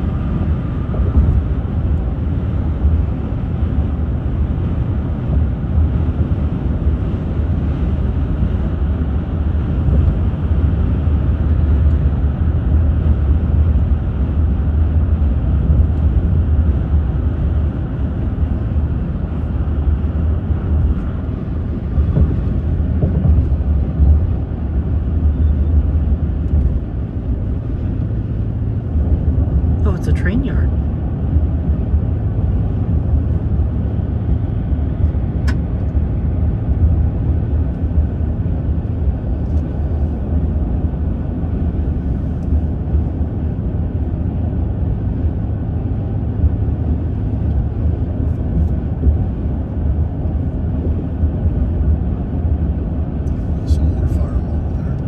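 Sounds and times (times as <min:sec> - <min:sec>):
car road rumble and tyre noise: 0:00.0 - 0:55.0.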